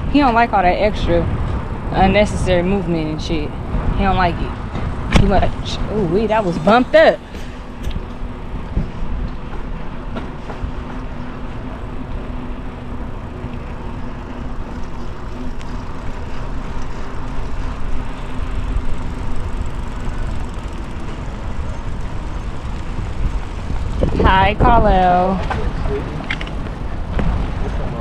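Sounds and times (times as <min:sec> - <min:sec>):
bicycle rolling noise: 0:00.0 - 0:28.0
wind rushing over microphone: 0:00.0 - 0:28.0.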